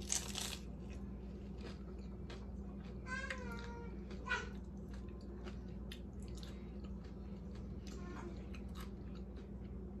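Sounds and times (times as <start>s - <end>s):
chewing crunchy food: 0.0s - 10.0s.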